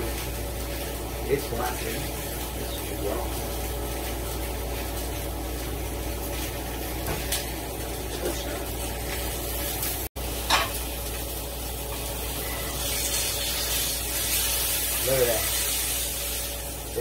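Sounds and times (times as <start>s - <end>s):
pork chops sizzling in a skillet: 0.0s - 17.0s.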